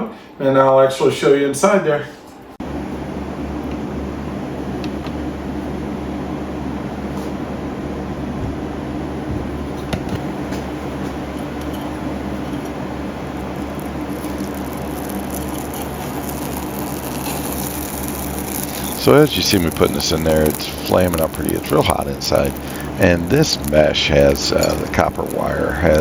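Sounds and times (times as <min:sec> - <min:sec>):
furnace rushing with low hum: 0:00.0 - 0:26.0.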